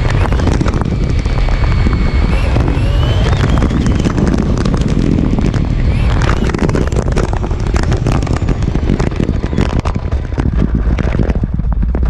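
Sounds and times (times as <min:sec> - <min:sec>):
chassis rattle and road noise: 0:00.0 - 0:12.0
wind rumble on microphone: 0:00.0 - 0:12.0.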